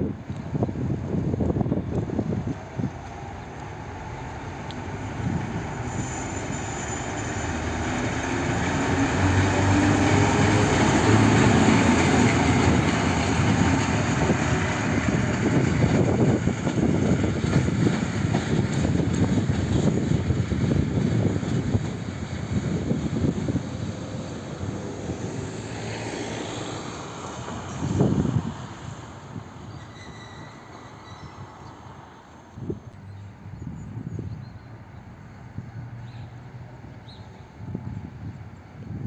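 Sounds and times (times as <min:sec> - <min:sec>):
diesel locomotive engine: 0:00.0 - 0:39.0.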